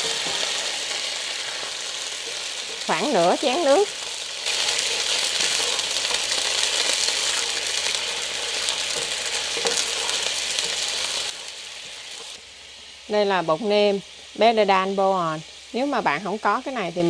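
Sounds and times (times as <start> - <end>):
caramel sizzling and bubbling: 0.0 - 17.0.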